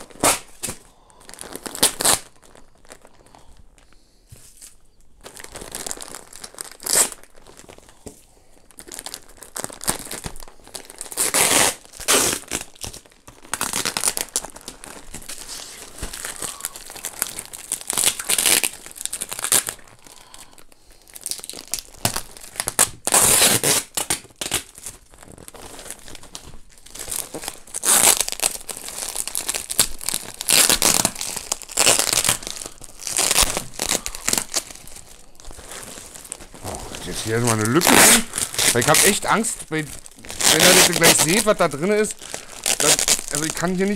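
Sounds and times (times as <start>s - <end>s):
packing tape peeled and torn: 0.0s - 3.9s, 4.5s - 43.9s
plastic bag crinkling: 0.0s - 43.9s.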